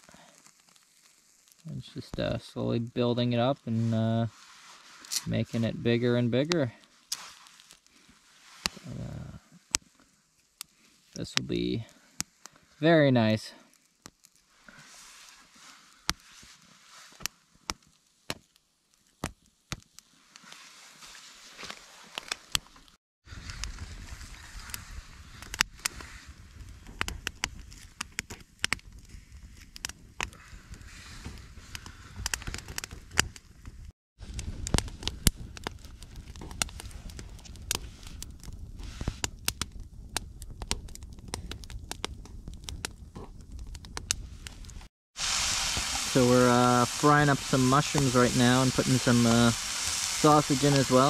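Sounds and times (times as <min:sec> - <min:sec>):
low rush of flame: 0:00.0 - 0:17.8, 0:23.2 - 0:51.0
fire crackling with wood pops: 0:00.0 - 0:51.0.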